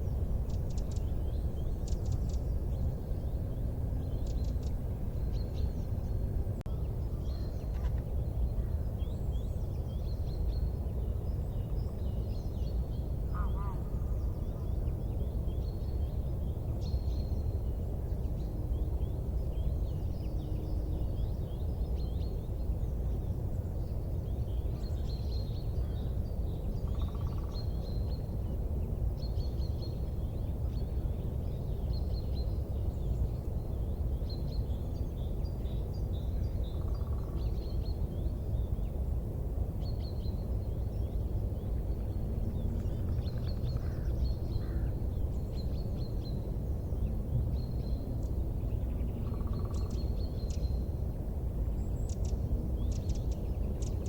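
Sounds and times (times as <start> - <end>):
low background noise: 0.0 - 54.0
small birds chirping: 0.0 - 54.0.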